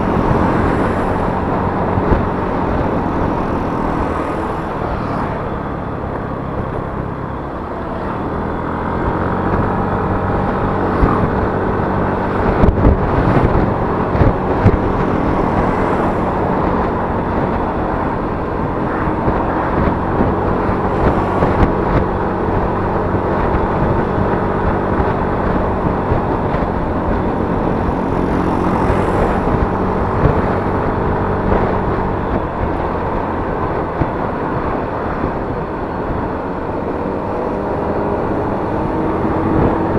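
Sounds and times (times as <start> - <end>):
road and wind noise: 0.0 - 39.9
scooter engine running: 0.0 - 39.9.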